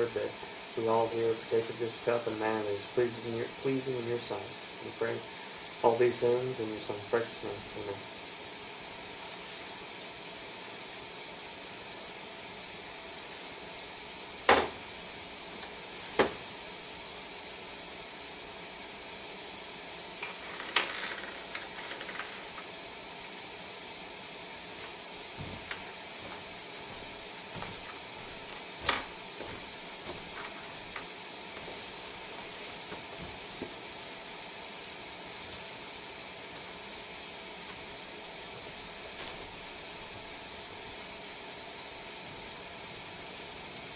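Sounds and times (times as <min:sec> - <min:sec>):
steady hiss: 0:00.0 - 0:43.9.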